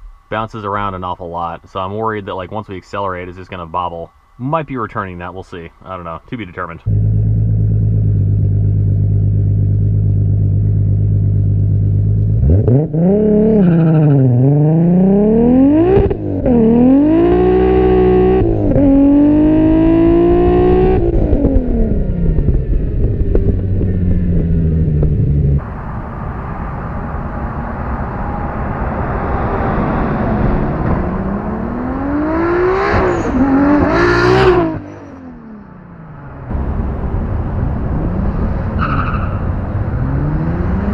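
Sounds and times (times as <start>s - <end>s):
car engine revving: 6.4s - 40.9s.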